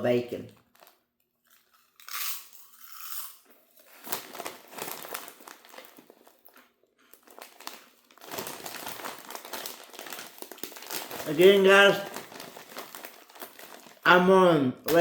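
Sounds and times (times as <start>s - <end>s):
chip bag crinkling: 0.6s - 14.3s.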